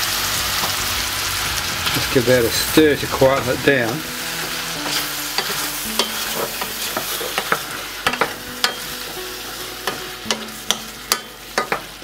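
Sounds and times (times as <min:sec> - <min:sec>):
food sizzling in a saucepan: 0:00.0 - 0:12.0.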